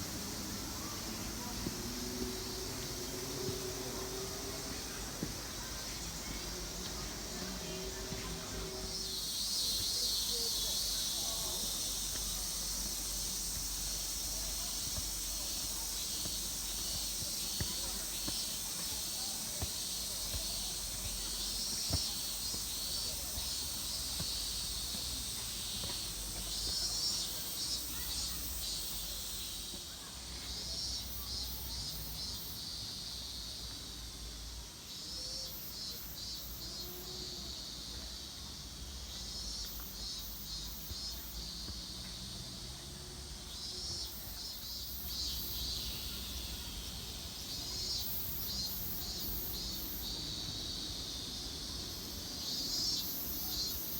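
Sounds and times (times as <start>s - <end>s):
insects pulsing trills: 0.0s - 42.4s, 43.2s - 53.9s.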